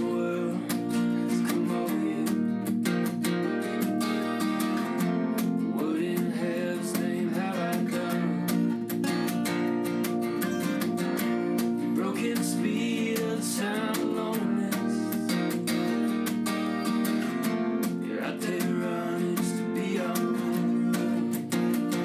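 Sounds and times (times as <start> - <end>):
acoustic guitar strumming: 0.0 - 22.0
bending melody line: 0.0 - 22.0.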